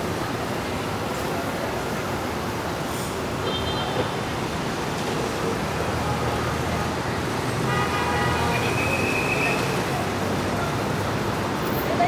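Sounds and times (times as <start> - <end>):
city road traffic hum: 0.0 - 12.0.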